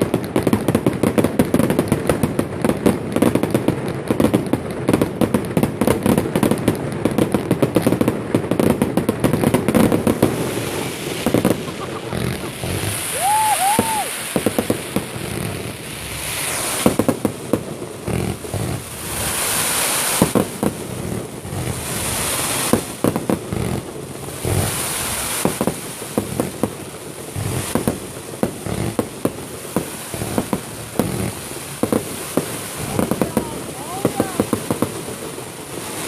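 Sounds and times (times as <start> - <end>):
fireworks exploding: 0.0 - 36.0
fireworks hissing and crackling: 0.0 - 36.0.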